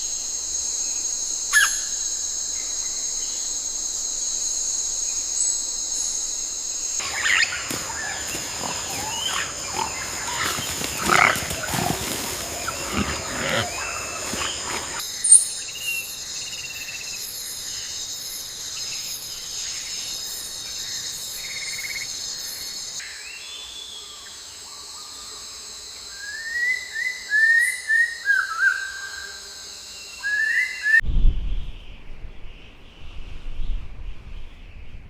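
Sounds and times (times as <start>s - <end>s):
high-pitched insect chorus: 0.0s - 31.3s.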